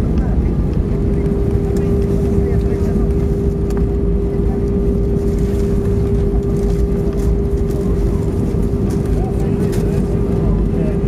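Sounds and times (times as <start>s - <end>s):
constant humming tone: 0.0s - 11.0s
low rumble of engines and wheels: 0.0s - 11.0s.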